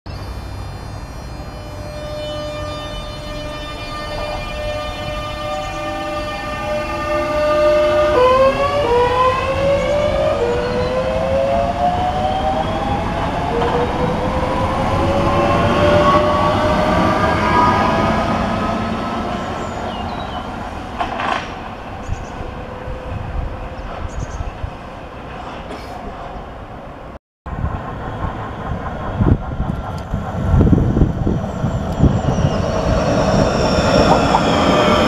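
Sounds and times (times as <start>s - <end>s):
electric train traction whine: 0.1s - 24.1s, 27.5s - 35.0s.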